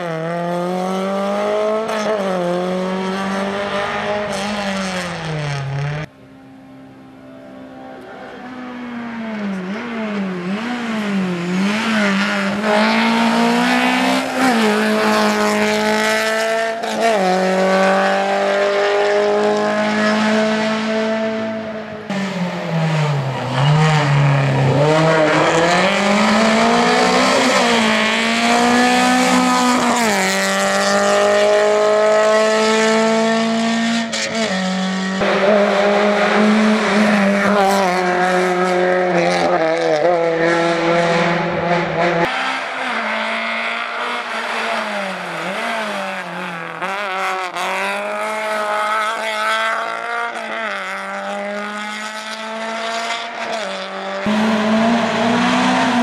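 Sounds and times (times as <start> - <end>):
rally car engine revving hard: 0.0 - 6.1, 9.2 - 56.0.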